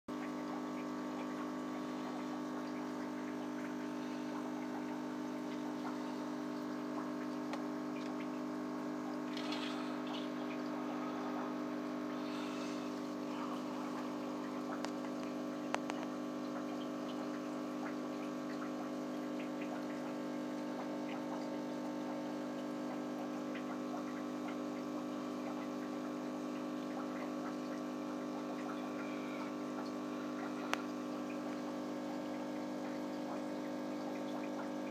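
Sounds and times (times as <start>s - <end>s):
aquarium pump humming: 0.1s - 34.9s.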